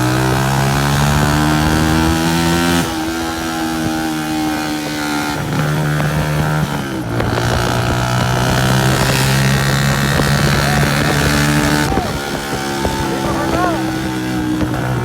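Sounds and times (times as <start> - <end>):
loud motorcycle engine running: 0.0 - 15.0.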